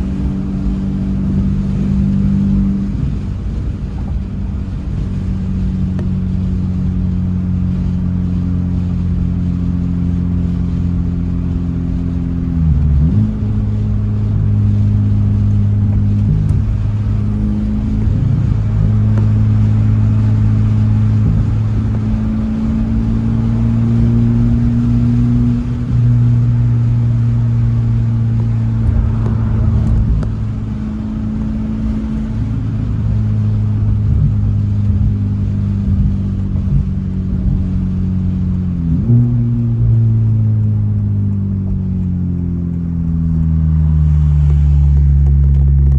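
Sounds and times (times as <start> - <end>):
car exhaust drone: 0.0 - 45.9.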